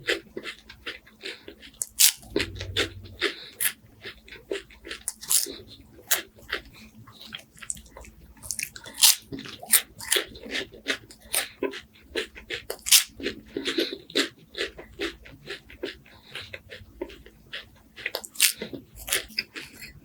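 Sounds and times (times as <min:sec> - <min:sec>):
crunching crispy wafers: 0:00.0 - 0:20.0.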